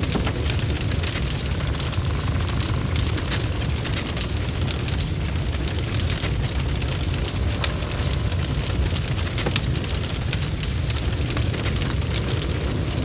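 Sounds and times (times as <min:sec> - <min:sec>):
low rumble of flames: 0:00.0 - 0:13.0
wood fire pops and snaps: 0:00.0 - 0:13.0.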